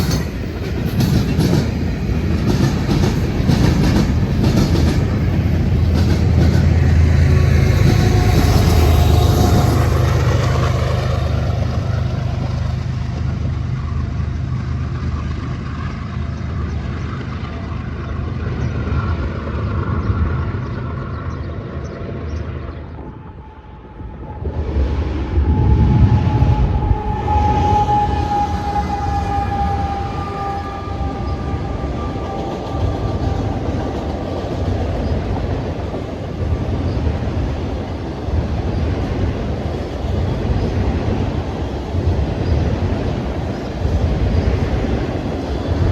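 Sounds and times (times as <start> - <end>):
train rumbling on tracks: 0.0 - 45.9.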